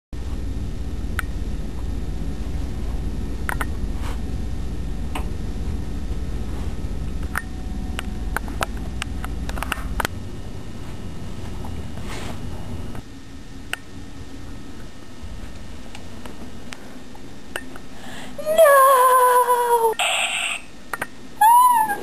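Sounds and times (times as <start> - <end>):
steady low hum: 0.2 - 22.0.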